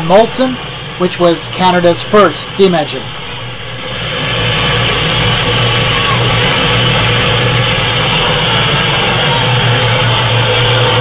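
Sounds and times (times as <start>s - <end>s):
low uneven rumble: 0.0s - 11.0s
steam locomotive hissing steam: 0.0s - 11.0s.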